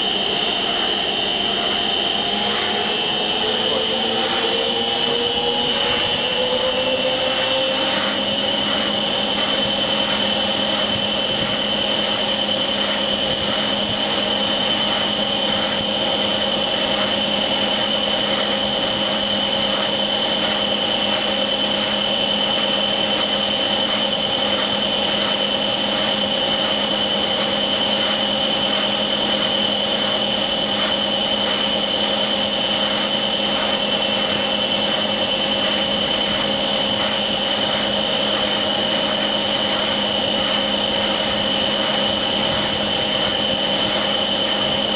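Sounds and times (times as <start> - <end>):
faint regular pulsing: 0.0 - 44.9
low machine tones: 0.0 - 44.9
machine high whine: 0.0 - 44.9.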